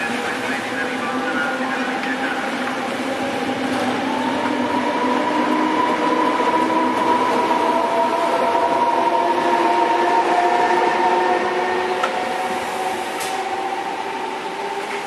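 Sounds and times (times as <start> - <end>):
electric locomotive whining: 0.0 - 15.0.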